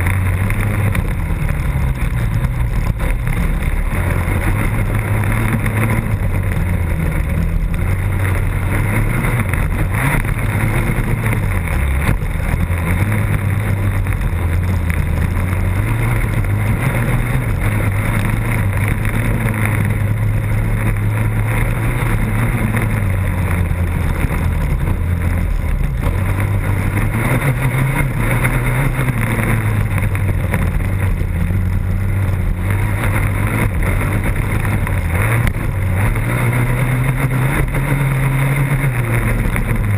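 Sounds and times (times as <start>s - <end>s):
racing engine revving: 0.0s - 39.9s
wind noise on microphone: 0.0s - 39.9s.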